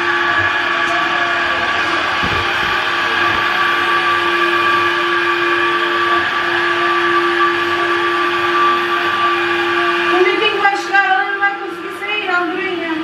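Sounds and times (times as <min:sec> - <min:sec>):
robot vacuum fan whining: 0:00.0 - 0:13.0.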